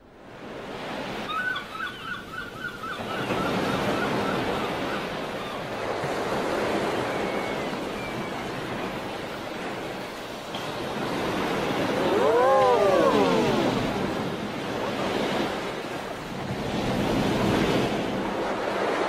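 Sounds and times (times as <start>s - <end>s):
sea surf: 0.0s - 19.0s.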